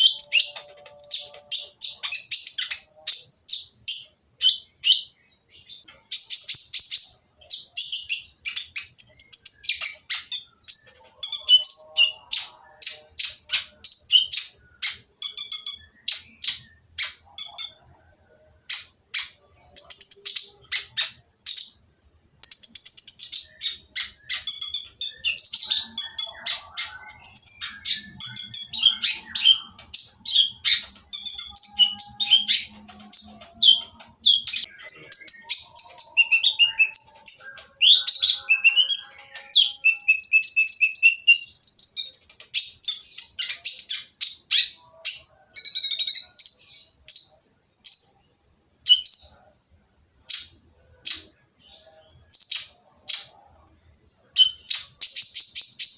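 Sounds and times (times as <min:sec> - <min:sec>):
bird singing harsh chirps and trills: 0:00.0 - 0:49.6, 0:50.2 - 0:55.9.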